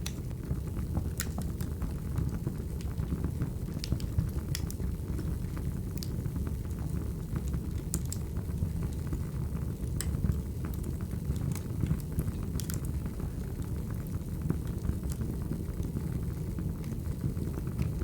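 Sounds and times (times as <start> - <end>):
fire crackling and popping: 0.0 - 18.0
wood fire rumbling: 0.0 - 18.0.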